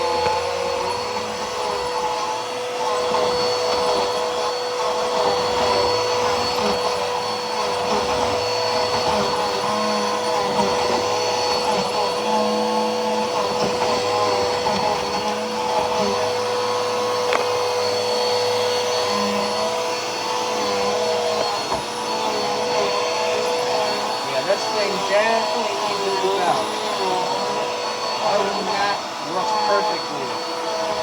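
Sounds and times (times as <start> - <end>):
upright vacuum cleaner running: 0.0 - 31.0.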